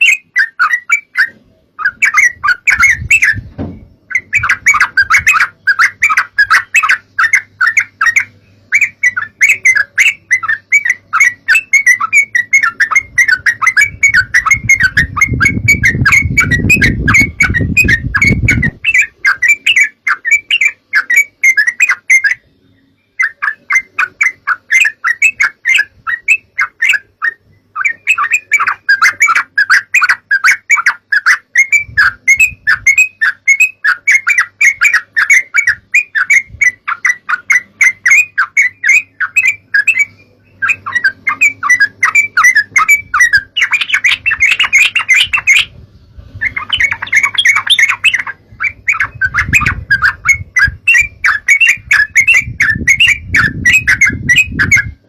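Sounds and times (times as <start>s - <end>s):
birds chattering: 0.0s - 55.0s.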